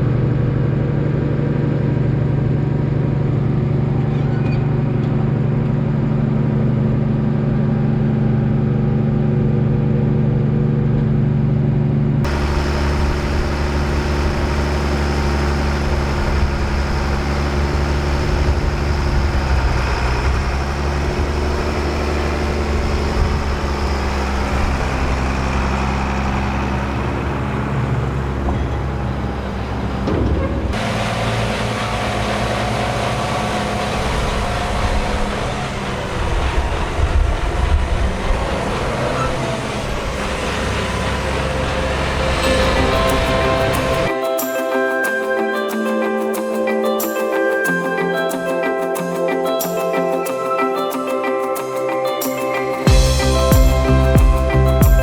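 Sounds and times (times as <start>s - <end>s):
diesel engines droning: 0.0s - 44.2s, 52.0s - 55.0s.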